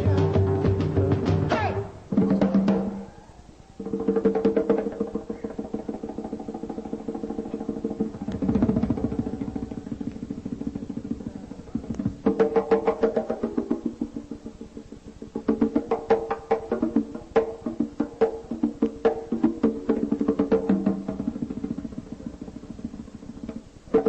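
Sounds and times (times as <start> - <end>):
rapid percussion strikes: 0.0 - 24.0.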